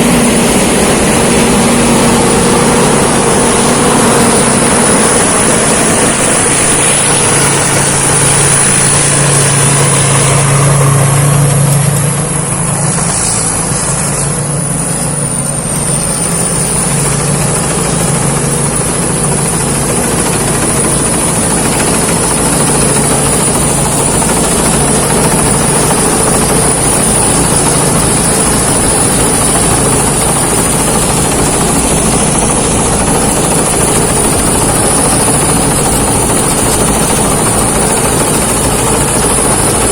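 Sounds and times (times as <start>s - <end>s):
combine harvester drone: 0.0s - 39.9s
thin high whine: 0.0s - 39.9s.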